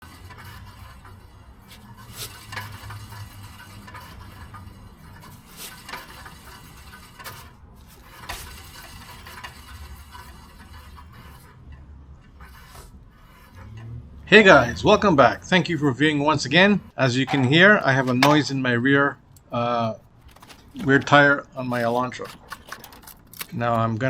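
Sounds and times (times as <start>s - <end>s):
wheel scraping and rubbing: 0.0s - 23.7s.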